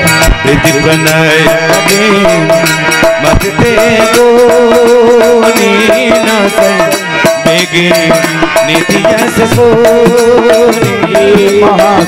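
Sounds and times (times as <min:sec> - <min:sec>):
hand drum beat: 0:00.0 - 0:12.0
harmonium melody: 0:00.0 - 0:12.0.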